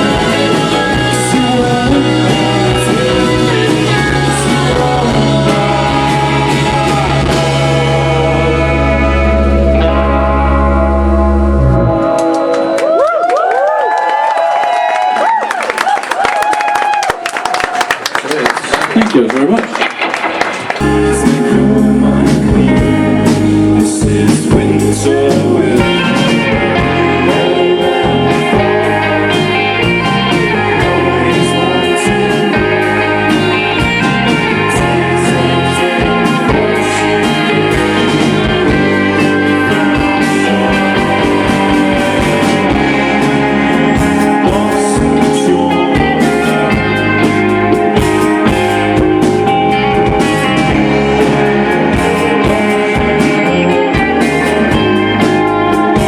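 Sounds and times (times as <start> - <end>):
live rock band with guitars: 0.0 - 56.0.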